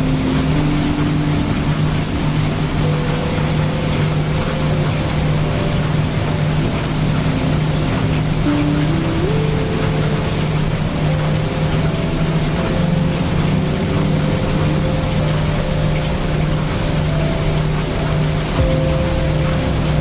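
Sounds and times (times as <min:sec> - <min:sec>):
brown noise with deep rumble: 0:00.0 - 0:20.0
heavy rain: 0:00.0 - 0:20.0
soft sustained musical tones: 0:00.0 - 0:20.0.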